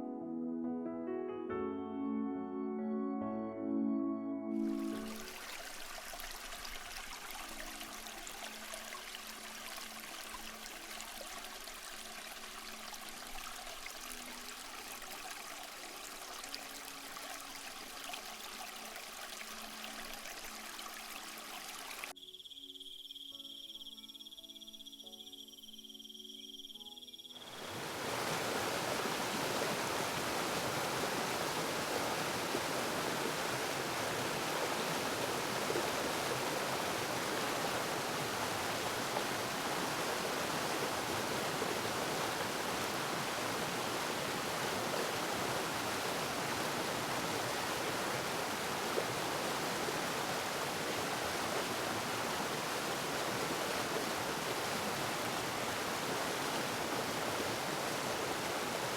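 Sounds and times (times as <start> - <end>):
waterfall rushing water: 4.7 - 22.1, 27.5 - 58.9.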